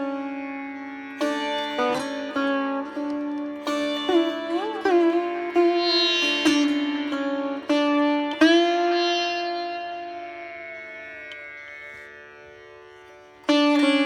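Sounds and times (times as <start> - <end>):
sitar playing: 0.0 - 14.0.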